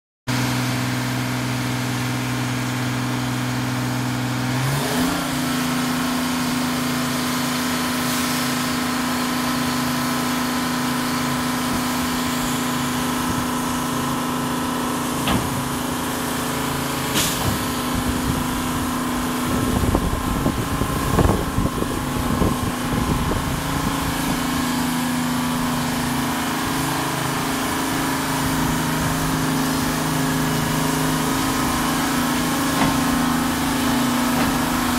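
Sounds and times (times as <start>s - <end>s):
crane engine running: 0.3s - 34.9s.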